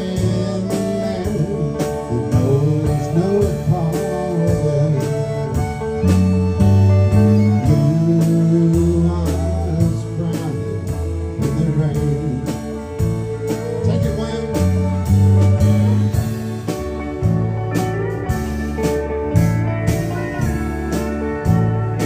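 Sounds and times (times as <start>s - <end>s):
drum kit beat: 0.0s - 22.0s
electric bass notes: 0.0s - 22.0s.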